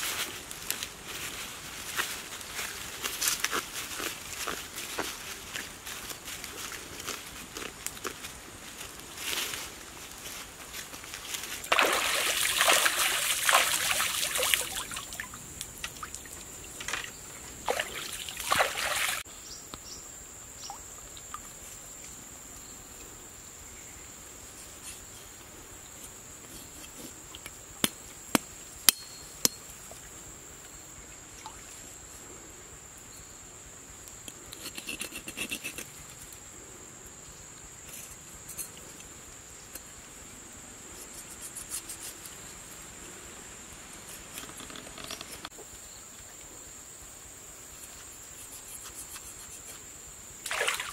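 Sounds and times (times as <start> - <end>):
high insect trill: 0.0 - 50.9.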